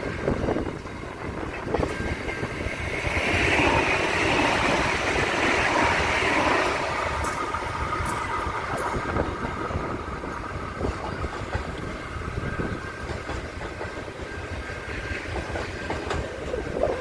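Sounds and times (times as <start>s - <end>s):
electric railcar rushing hiss: 0.0s - 17.0s.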